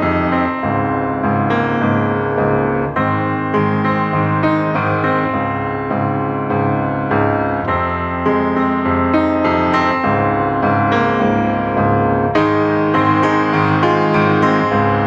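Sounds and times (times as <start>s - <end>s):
piano background music: 0.0s - 15.0s.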